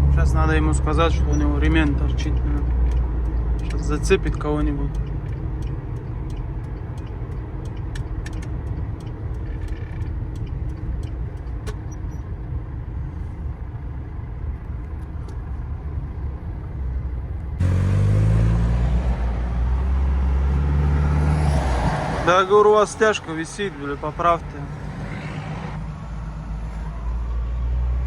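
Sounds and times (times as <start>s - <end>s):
van engine and road rumble: 0.0s - 28.0s.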